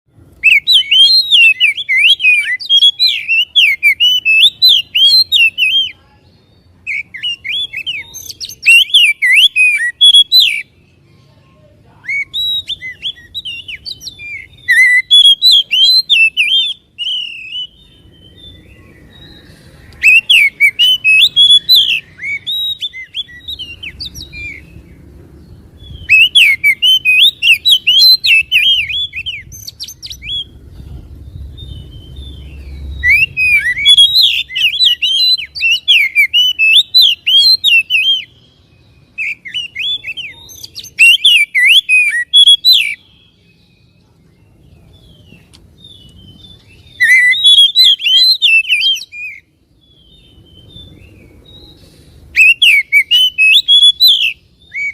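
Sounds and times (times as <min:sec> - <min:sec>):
bird singing whistled phrases: 0:00.4 - 0:11.0, 0:11.9 - 0:30.6, 0:31.2 - 0:44.0, 0:44.9 - 0:54.9.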